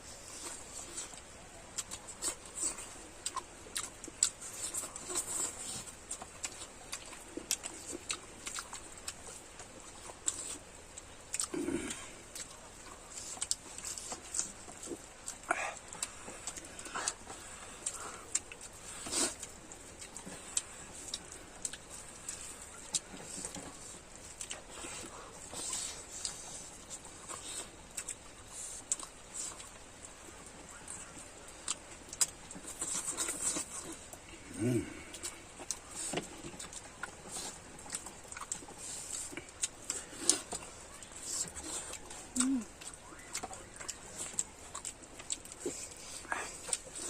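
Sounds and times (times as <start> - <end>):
chewing mouth clicks and smacks: 0.4 - 47.0.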